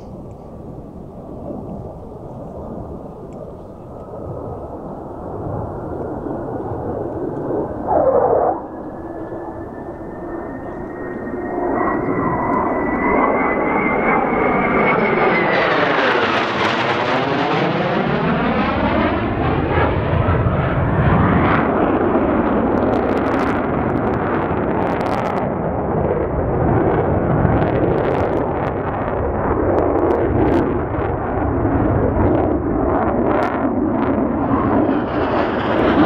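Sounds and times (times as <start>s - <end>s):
jet engine whine and roar: 0.0s - 36.0s.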